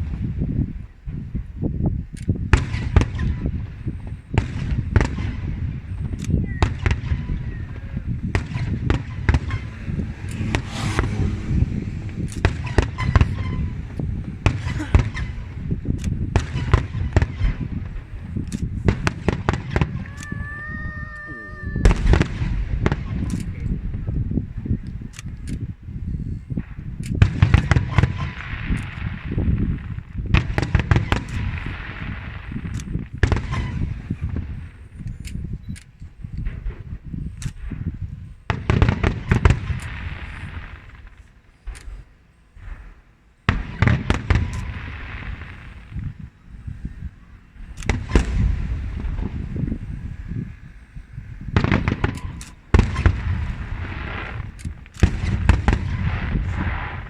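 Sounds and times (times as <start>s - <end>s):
low rumble of echoing reports: 0.0s - 57.0s
fireworks shells bursting: 2.3s - 24.0s, 26.4s - 57.0s.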